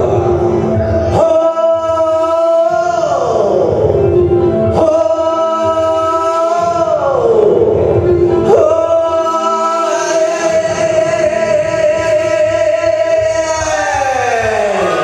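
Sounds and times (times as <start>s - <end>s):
man singing a long note: 0.0s - 15.0s
music: 0.0s - 15.0s.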